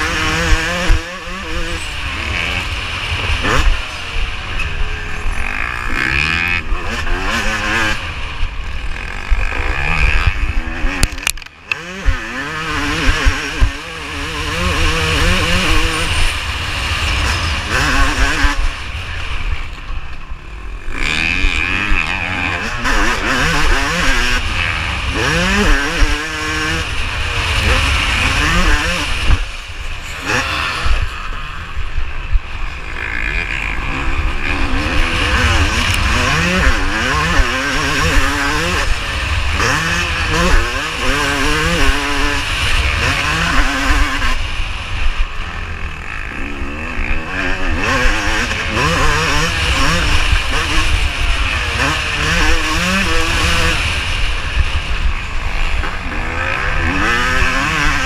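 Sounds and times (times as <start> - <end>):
motocross engine revving: 0.0 - 58.0.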